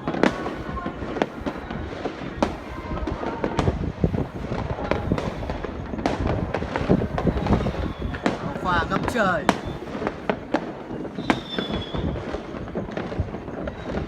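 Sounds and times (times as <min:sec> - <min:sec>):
fireworks bangs: 0:00.0 - 0:14.0
rumble of distant fireworks: 0:00.0 - 0:14.0.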